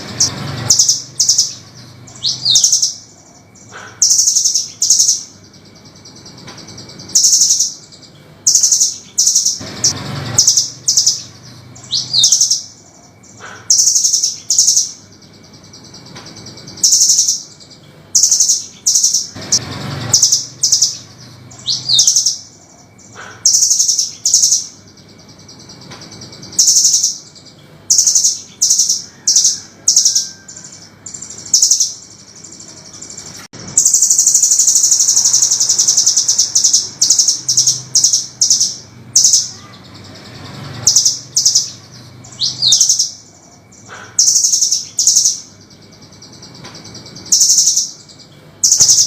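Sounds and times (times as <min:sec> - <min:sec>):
bird high chattering calls: 0:00.0 - 0:49.0.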